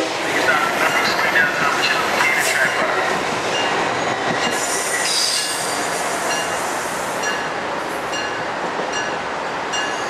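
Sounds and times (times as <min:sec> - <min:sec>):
train rolling on rails: 0:00.0 - 0:10.0.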